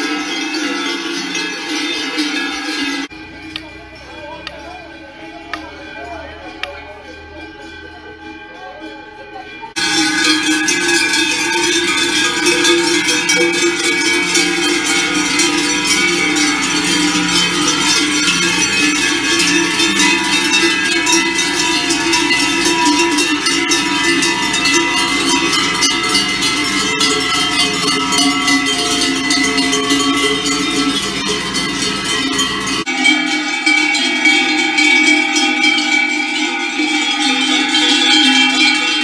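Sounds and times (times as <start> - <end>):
cowbells clanging: 0.0 - 39.0.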